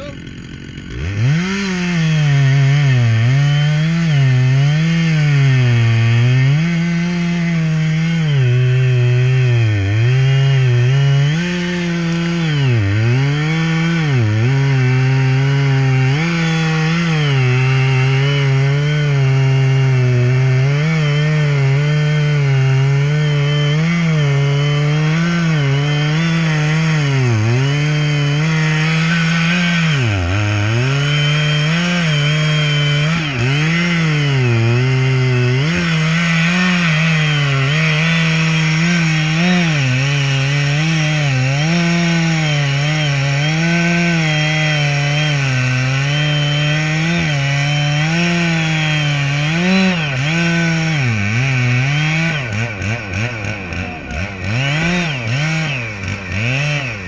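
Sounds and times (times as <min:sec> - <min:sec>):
engine bogging while chipping wood: 0:00.0 - 0:57.0.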